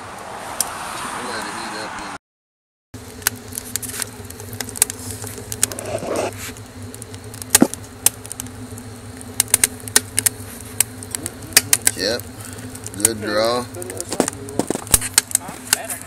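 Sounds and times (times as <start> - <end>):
burning wood crackling and popping: 0.1 - 1.5, 3.0 - 16.0
stove draft buzzing drone: 3.0 - 16.0.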